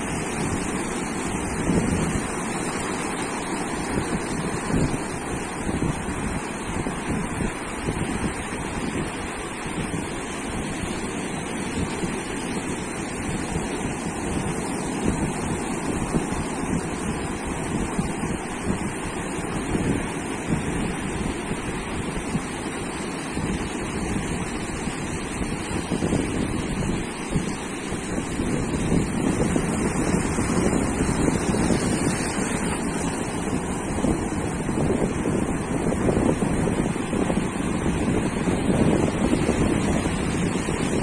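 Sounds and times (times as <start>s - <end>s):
ocean surf washing onto beach: 0.0s - 41.0s
wind rumbling on microphone: 0.0s - 41.0s.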